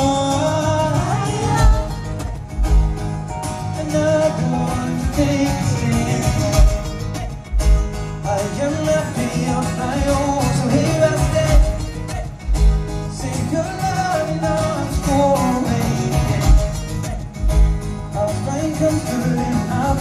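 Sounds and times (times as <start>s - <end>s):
man singing: 0.0s - 20.0s
strummed acoustic guitar: 0.0s - 20.0s.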